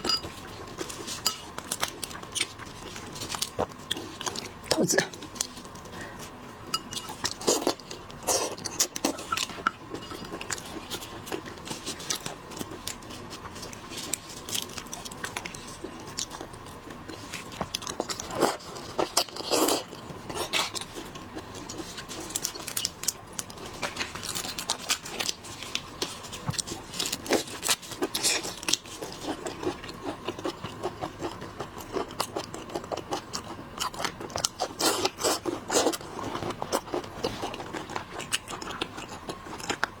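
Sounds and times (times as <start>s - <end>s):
shellfish cracking and chewing: 0.0s - 6.1s, 6.7s - 40.0s
faint steady hum: 0.0s - 40.0s.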